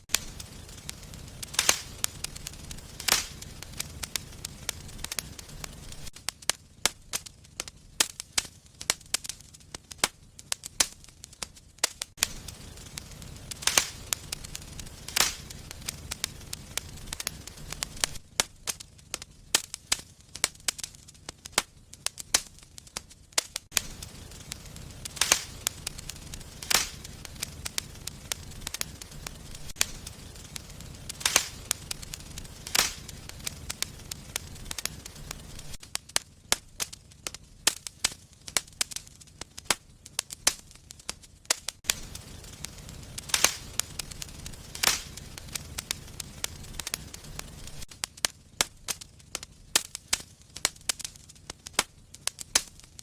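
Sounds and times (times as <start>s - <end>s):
sharp pops and snaps: 0.0s - 53.0s
wood fire crackling: 0.0s - 53.0s.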